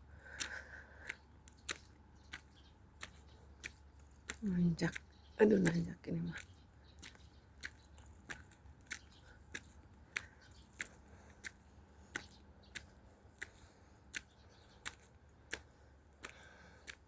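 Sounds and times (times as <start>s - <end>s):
footsteps on hard path: 0.0s - 17.0s.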